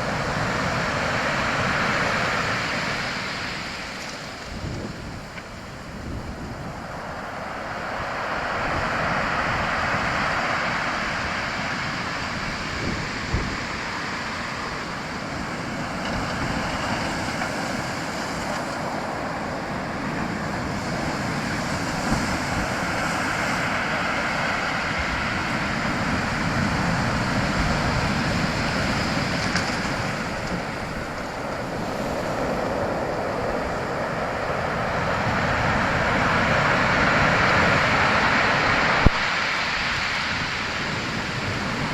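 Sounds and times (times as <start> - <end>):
rushing water: 0.0 - 41.9.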